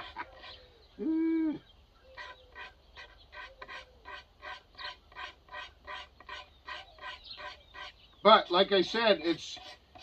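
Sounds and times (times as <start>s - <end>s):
hand tool scraping wood: 0.0s - 0.6s, 2.1s - 10.0s.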